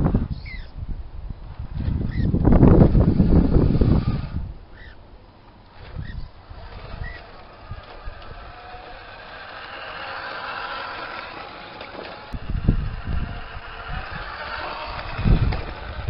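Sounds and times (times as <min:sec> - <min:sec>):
low irregular rumbles: 0:01.2 - 0:16.0
radio-controlled truck drone: 0:02.0 - 0:05.0, 0:05.7 - 0:16.0.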